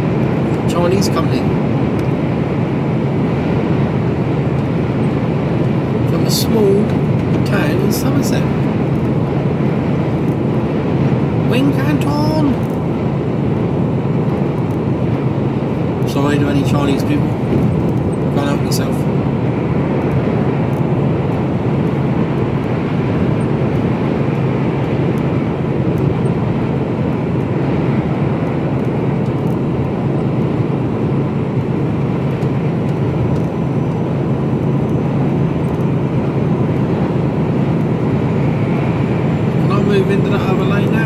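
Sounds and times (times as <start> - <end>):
diesel engine drone: 0.0 - 41.0
tyre and road noise: 0.0 - 41.0.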